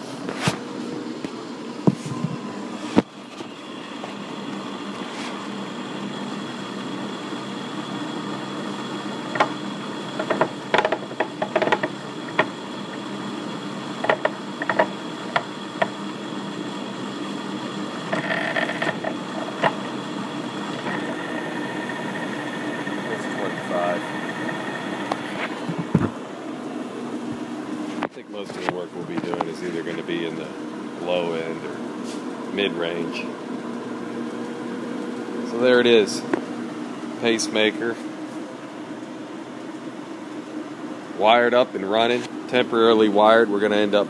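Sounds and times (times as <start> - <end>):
lathe running: 1.6 - 37.8.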